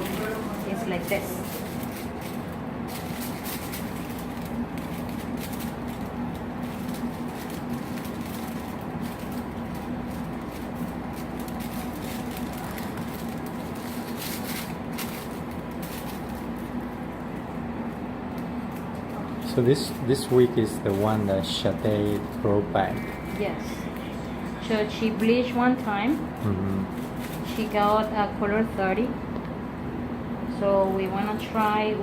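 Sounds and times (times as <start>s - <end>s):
air conditioner hum: 0.0s - 32.0s.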